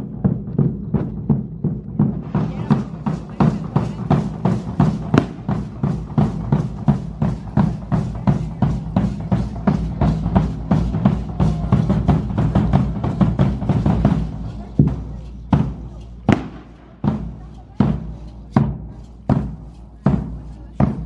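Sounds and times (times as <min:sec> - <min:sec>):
drum beaten in fast rhythm: 0:00.0 - 0:21.0.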